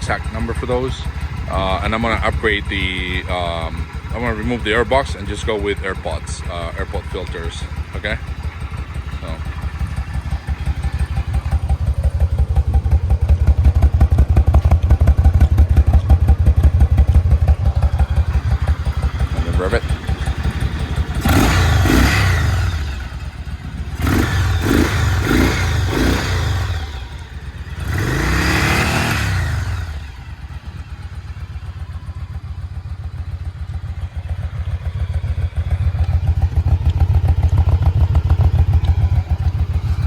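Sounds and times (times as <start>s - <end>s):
motorcycle engine revving and idling: 0.0s - 40.0s.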